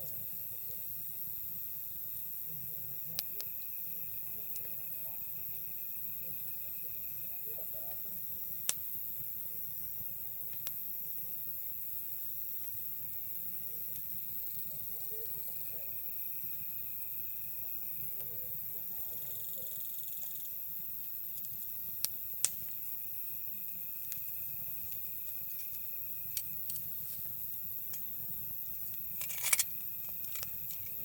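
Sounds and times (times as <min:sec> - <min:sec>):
insect trilling: 0:00.1 - 0:31.0
campfire crackling and popping: 0:03.0 - 0:31.0.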